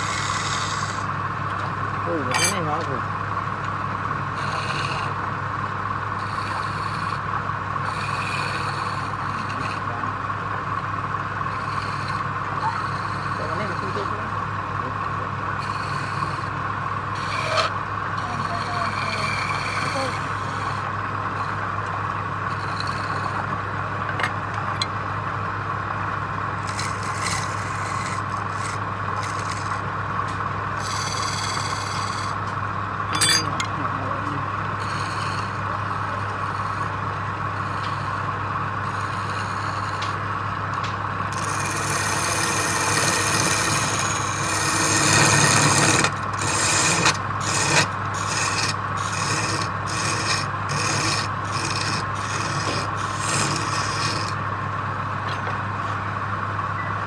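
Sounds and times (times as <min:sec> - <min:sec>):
tool scraping spinning wood: 0:00.0 - 0:54.8
wood lathe motor running: 0:00.0 - 0:55.0.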